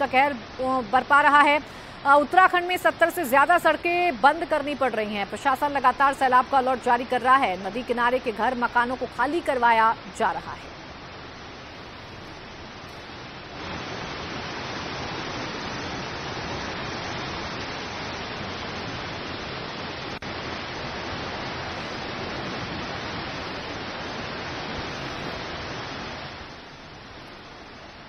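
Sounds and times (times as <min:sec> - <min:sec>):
river rushing: 0:00.0 - 0:28.0.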